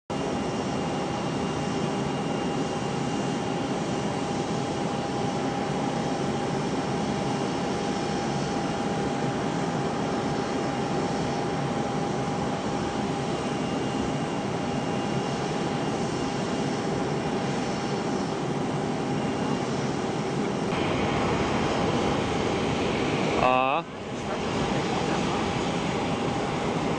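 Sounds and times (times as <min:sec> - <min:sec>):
jet engines whining: 0:00.1 - 0:26.9.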